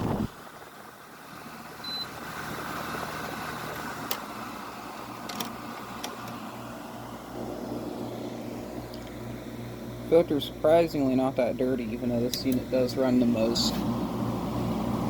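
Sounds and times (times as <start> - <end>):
air conditioner fan whoosh: 0.0 - 15.0.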